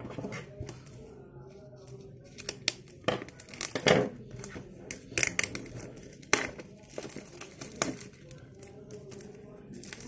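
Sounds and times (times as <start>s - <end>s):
plastic shrink wrap crinkling: 1.9s - 10.0s.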